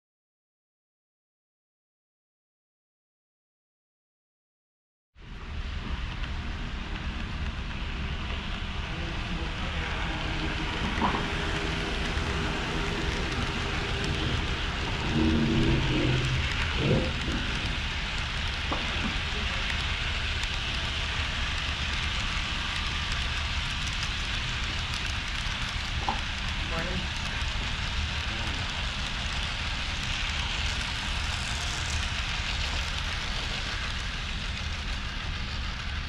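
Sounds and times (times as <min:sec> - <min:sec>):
model trains running on track: 0:05.2 - 0:36.0.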